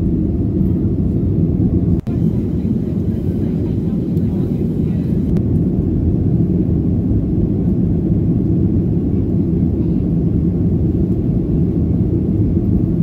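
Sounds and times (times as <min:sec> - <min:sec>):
jet airliner cabin noise: 0:00.0 - 0:13.0.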